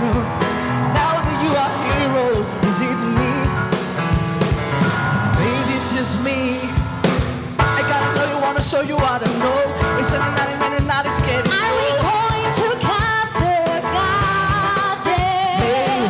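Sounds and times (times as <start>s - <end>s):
person singing with vibrato: 0.0s - 3.9s, 5.3s - 7.0s, 7.6s - 16.0s
drum kit beat: 0.0s - 16.0s
piano accompaniment: 0.0s - 16.0s.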